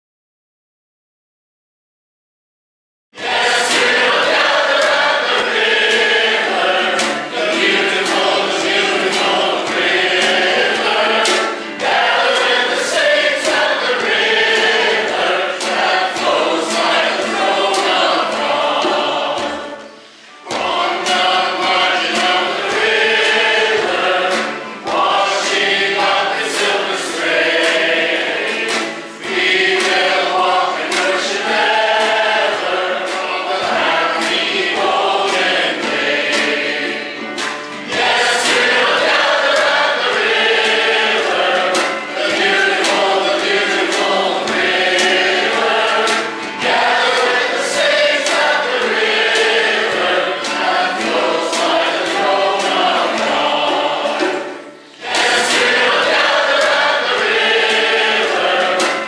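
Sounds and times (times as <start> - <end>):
congregation singing: 3.2 - 59.0.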